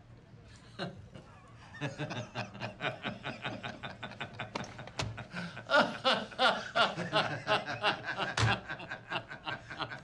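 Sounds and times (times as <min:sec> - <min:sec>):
men chuckling and laughing: 0:00.8 - 0:10.0.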